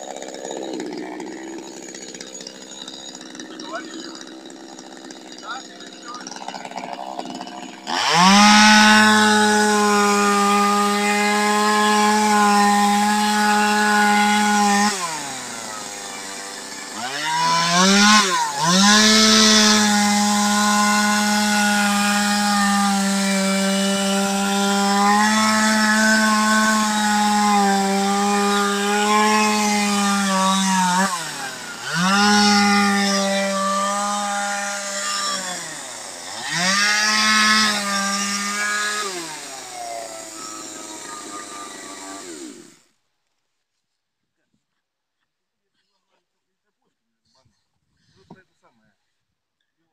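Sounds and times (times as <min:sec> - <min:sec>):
chainsaw cutting log: 0:00.0 - 0:42.9.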